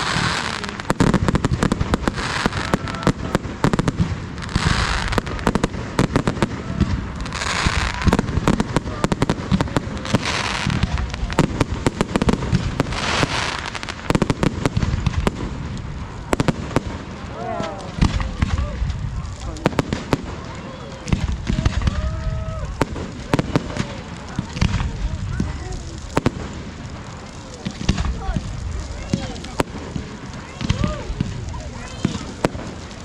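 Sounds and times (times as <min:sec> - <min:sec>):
crackling hiss: 0:00.0 - 0:33.0
fireworks bangs and crackles: 0:00.0 - 0:33.0.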